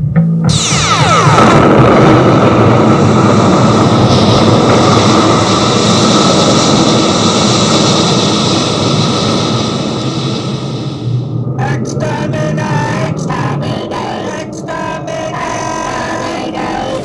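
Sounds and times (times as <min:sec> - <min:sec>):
jet-like rushing roar: 0:00.5 - 0:17.0.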